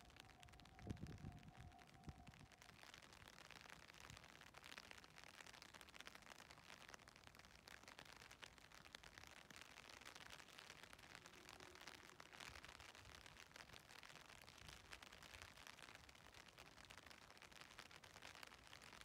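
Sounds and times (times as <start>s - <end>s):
light rain patter: 0.0s - 19.0s.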